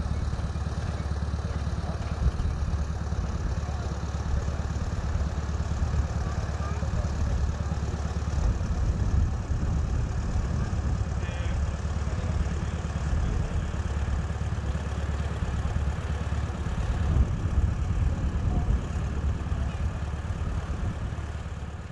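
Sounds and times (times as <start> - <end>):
locomotive engine idling: 0.0 - 21.9.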